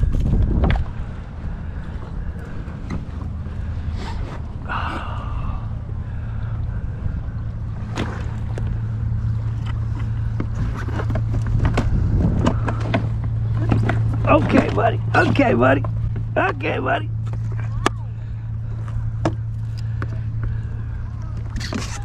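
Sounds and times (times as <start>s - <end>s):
low motor hum: 0.0s - 22.0s
water noise: 0.0s - 22.0s
wind: 0.0s - 22.0s.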